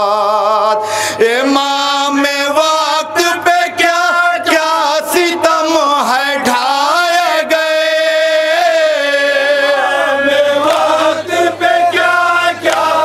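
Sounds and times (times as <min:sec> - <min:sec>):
man singing lament into microphone: 0:00.0 - 0:10.6
group of men chanting: 0:02.4 - 0:13.0.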